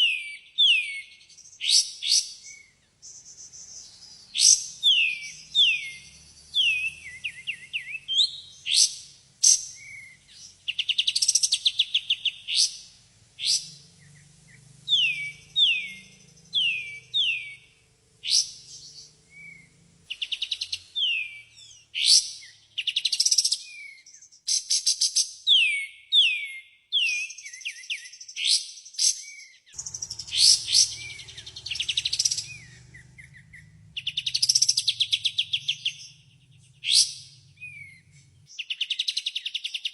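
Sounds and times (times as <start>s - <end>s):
songbird singing: 0.0s - 24.7s, 25.5s - 39.9s.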